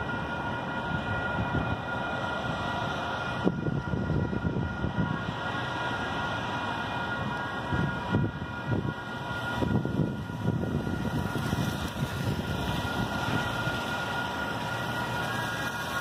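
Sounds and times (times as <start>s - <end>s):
crossing warning bells ringing: 0.0s - 16.0s
traffic on a wet road: 0.0s - 16.0s.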